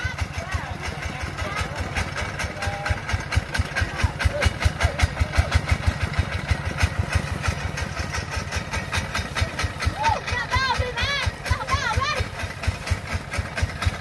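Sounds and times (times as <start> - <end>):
diesel engine thudding: 0.0 - 14.0.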